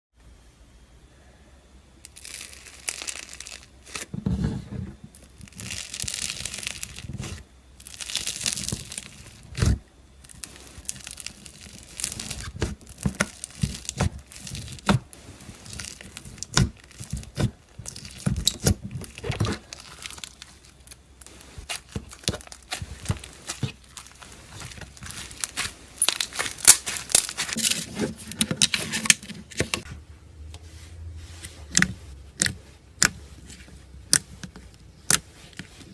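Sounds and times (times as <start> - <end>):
slime squishing crackles: 2.0 - 29.8, 31.7 - 35.9.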